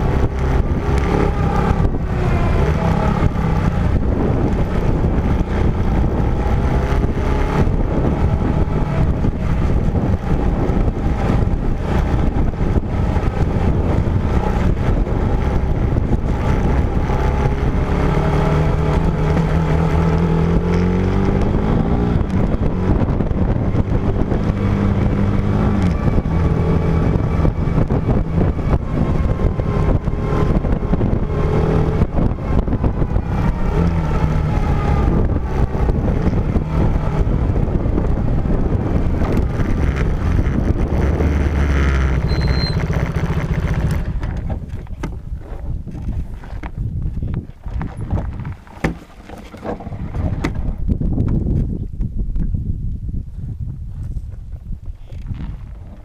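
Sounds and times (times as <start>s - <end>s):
vehicle engine running under load: 0.0s - 51.0s.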